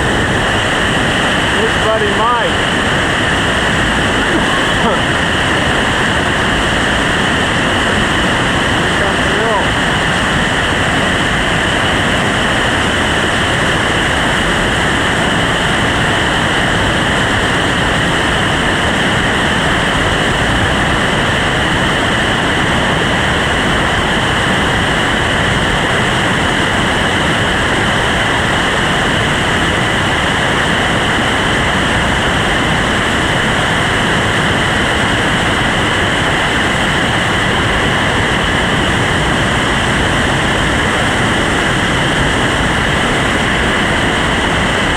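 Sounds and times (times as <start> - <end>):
whitewater rushing: 0.0 - 44.9.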